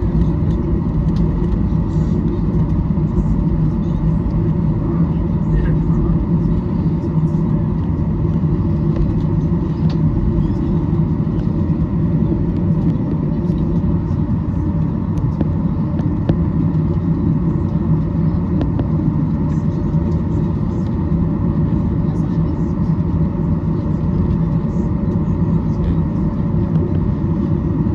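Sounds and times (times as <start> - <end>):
aircraft cabin rumble: 0.0 - 27.9.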